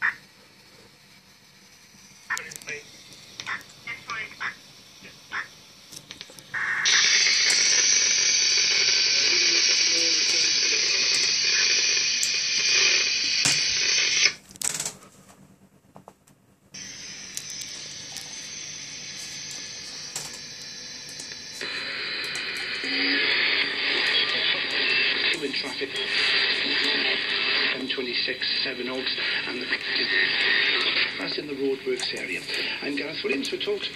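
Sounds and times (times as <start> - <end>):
radio static hiss: 0.0 - 14.4, 16.7 - 33.9.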